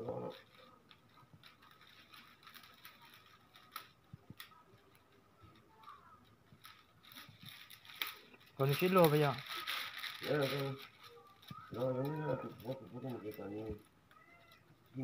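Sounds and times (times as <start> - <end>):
dry grass stalks clicking: 0.1 - 15.0.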